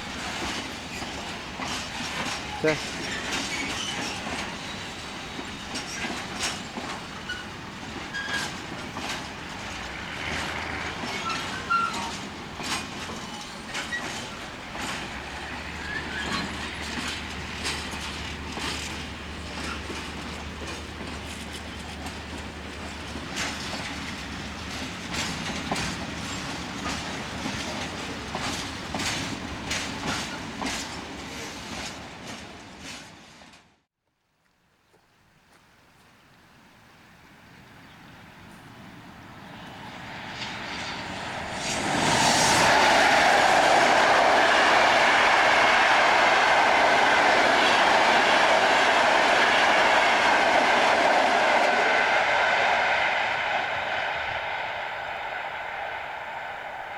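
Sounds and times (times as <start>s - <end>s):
train wheels clacking over rail joints: 0.0s - 33.7s, 39.7s - 54.2s
train rumble: 0.0s - 33.8s, 37.3s - 56.9s.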